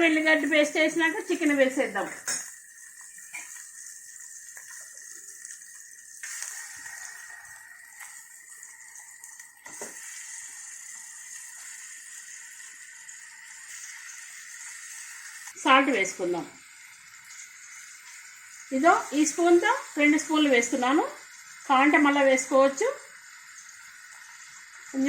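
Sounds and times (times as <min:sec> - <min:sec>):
chicken sizzling in hot oil: 0:00.0 - 0:25.0.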